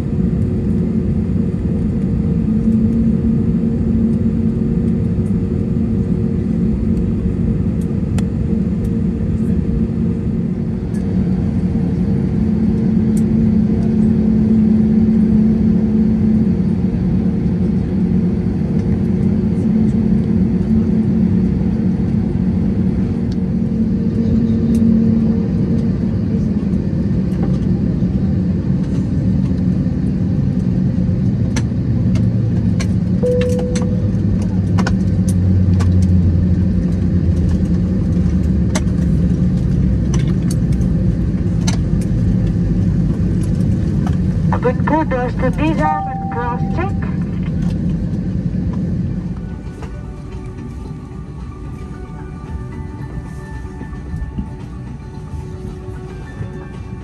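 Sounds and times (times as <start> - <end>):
deep rumble: 0.0 - 57.0
jet engines humming: 0.0 - 57.0.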